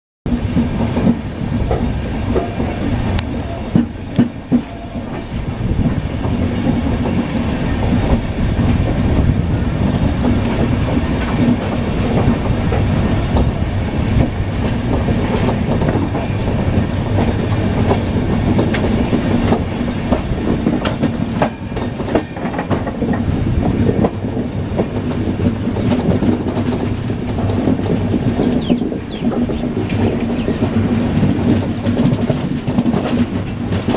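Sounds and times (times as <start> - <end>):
train wheels rumbling: 0.3 - 33.9
wheels clacking over rail joints: 0.3 - 33.9.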